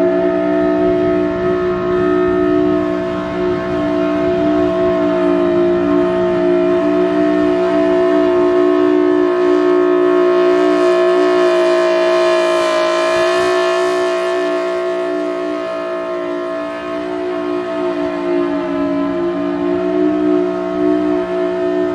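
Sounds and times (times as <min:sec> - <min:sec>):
warning siren steady tone: 0:00.0 - 0:21.9.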